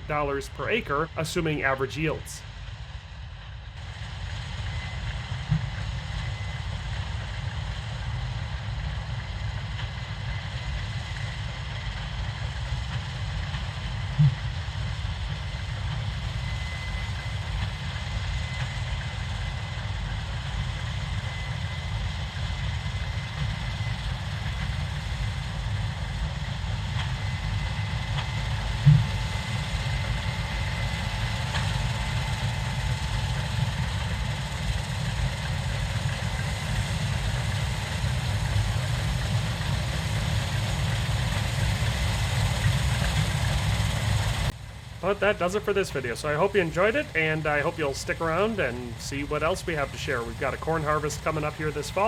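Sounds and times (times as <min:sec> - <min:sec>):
combine harvester rumbling: 0:00.0 - 0:52.0.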